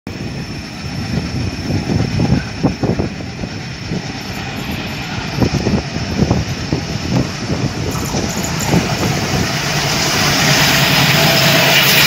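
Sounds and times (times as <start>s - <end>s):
diesel locomotive rumbling: 0.1s - 12.0s.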